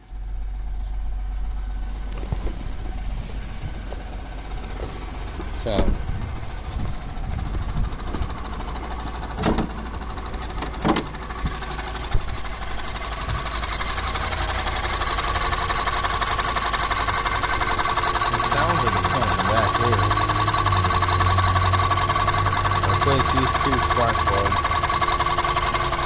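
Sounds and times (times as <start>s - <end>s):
engine running with knocking: 0.0s - 26.0s.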